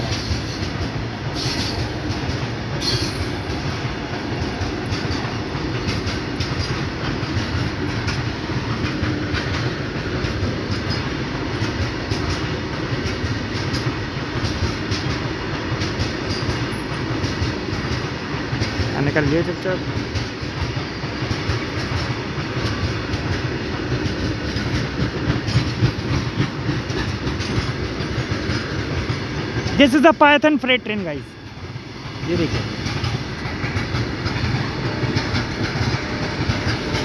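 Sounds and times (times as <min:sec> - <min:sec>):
train wheels rumbling on rail: 0:00.0 - 0:37.0
wheels clattering over rail joints: 0:00.0 - 0:37.0.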